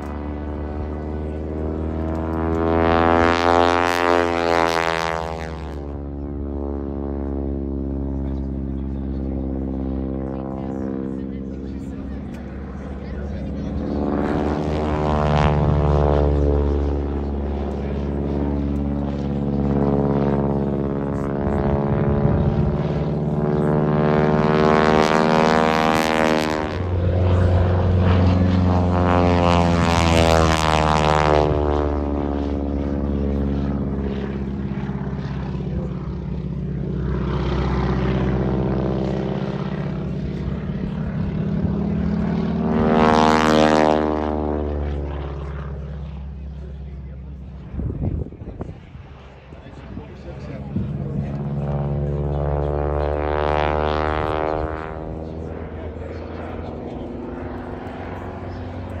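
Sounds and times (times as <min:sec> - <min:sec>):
propeller plane engine: 0:00.0 - 0:59.0.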